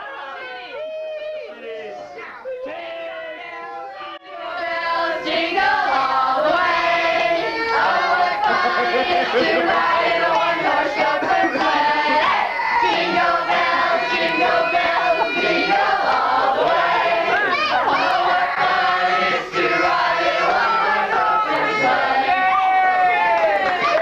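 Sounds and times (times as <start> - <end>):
children and adults singing: 2.3 - 24.0.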